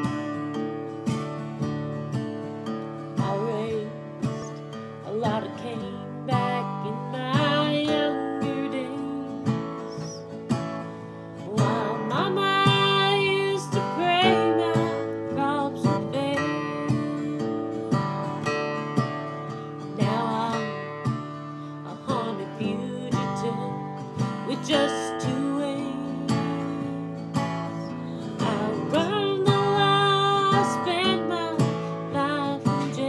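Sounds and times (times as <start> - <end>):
acoustic guitars playing country tune: 0.0 - 33.0.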